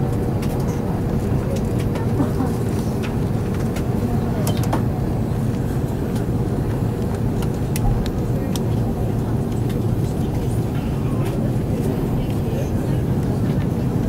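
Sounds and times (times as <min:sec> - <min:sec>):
jet airliner cabin rumble: 0:00.0 - 0:14.0.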